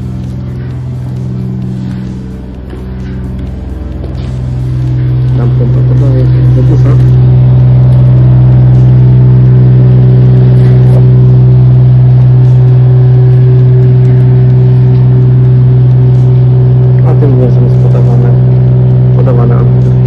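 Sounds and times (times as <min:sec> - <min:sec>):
pump engine droning: 0:00.0 - 0:20.0.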